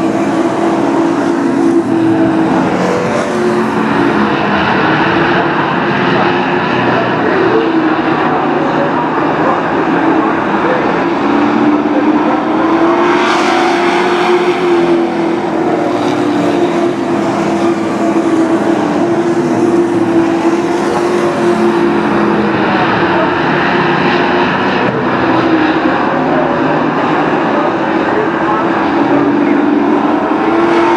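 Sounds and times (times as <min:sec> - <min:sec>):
race truck engines droning: 0:00.0 - 0:30.9.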